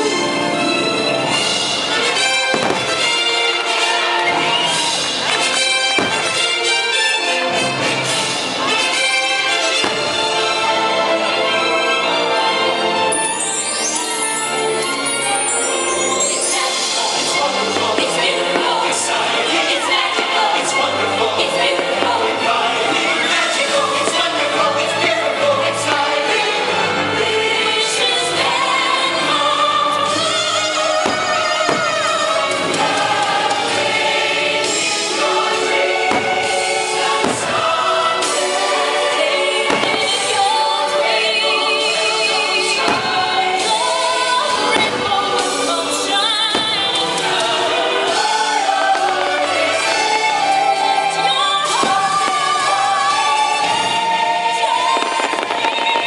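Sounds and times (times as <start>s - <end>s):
choir singing: 0.0s - 56.0s
orchestral music: 0.0s - 56.0s
fireworks bursting: 1.2s - 7.2s, 13.1s - 28.0s, 30.0s - 56.0s.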